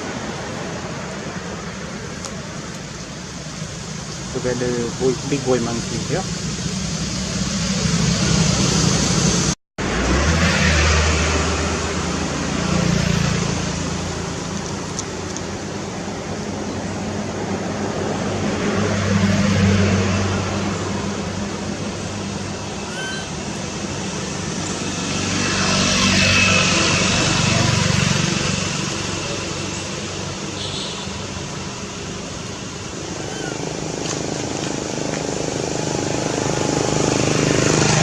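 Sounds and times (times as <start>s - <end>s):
vehicles passing: 0.0s - 38.0s
wind: 0.0s - 38.0s.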